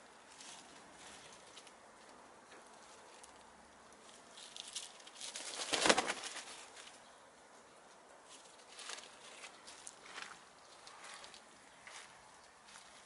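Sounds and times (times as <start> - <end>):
hens scratching in dry leaves: 0.0 - 7.0, 8.2 - 13.0.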